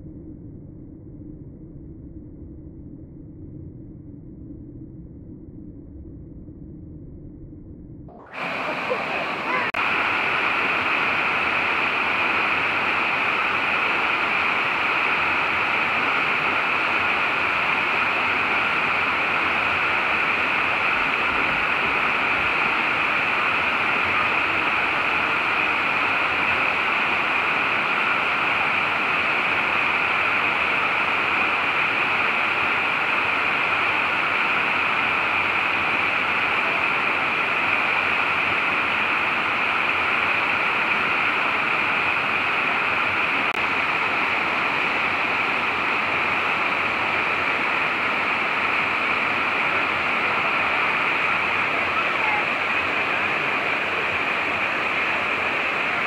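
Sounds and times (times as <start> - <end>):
water rushing down rock: 8.3 - 56.0.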